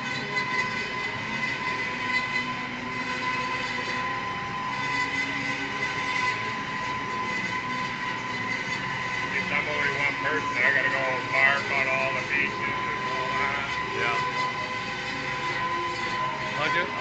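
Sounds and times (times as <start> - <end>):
bandsaw whining: 0.0 - 17.0.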